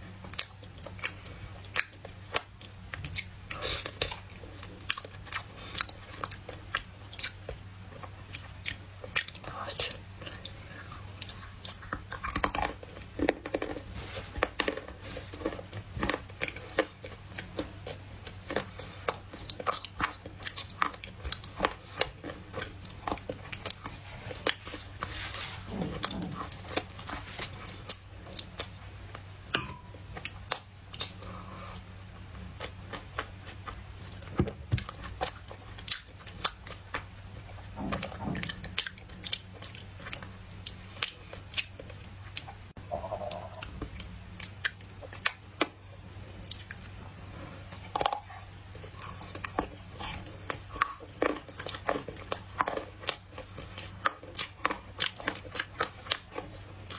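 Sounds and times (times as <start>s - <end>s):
person chewing crunchy clay: 0.0s - 56.9s
steady low hum: 0.0s - 56.9s.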